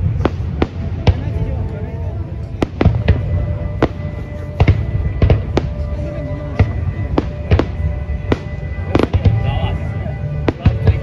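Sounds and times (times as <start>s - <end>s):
fireworks bursting: 0.0s - 1.8s, 2.5s - 11.0s
music playing: 0.0s - 11.0s.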